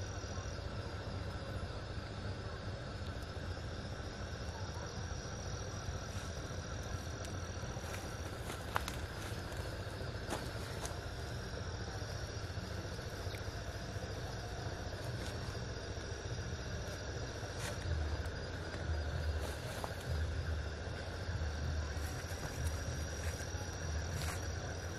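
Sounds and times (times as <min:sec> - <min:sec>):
insects chirring: 0:00.0 - 0:24.9.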